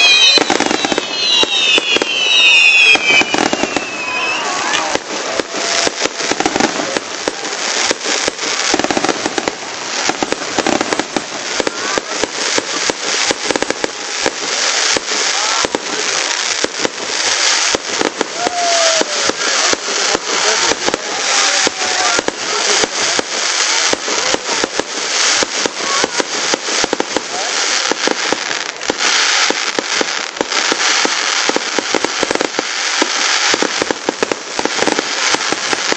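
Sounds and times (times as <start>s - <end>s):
fireworks banging and crackling: 0.0s - 35.9s.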